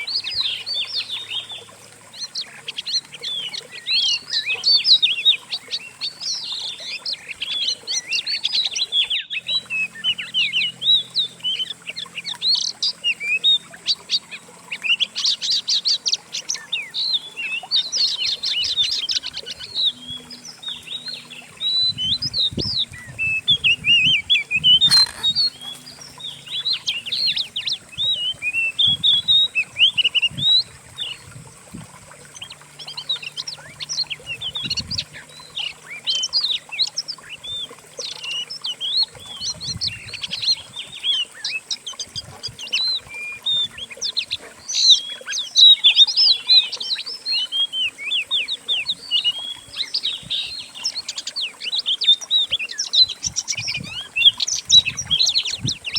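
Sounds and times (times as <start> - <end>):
songbirds chirping and trilling: 0.0 - 55.9.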